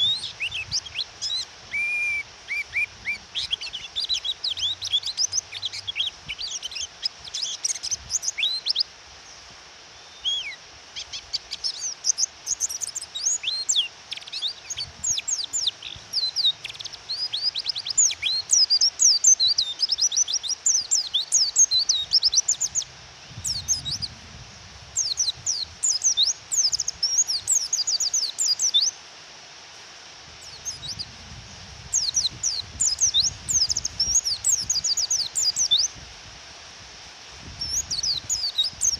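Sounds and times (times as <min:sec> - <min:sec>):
birds chirping: 0:00.0 - 0:24.2, 0:24.9 - 0:29.0, 0:30.4 - 0:35.9, 0:37.5 - 0:38.9
rain hiss: 0:00.0 - 0:38.9.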